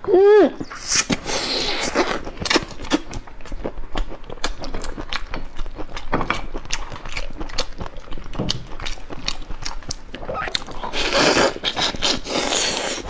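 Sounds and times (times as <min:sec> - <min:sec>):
chewing: 0:00.6 - 0:13.0.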